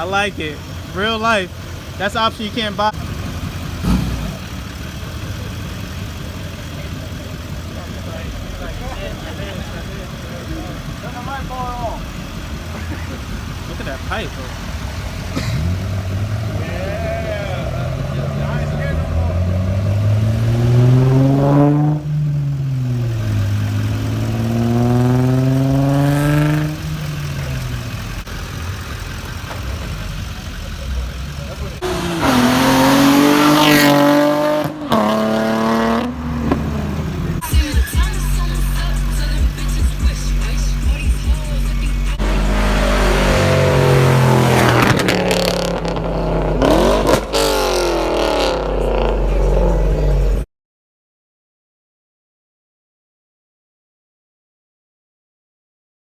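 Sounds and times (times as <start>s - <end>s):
car engine revving: 0.0s - 50.5s.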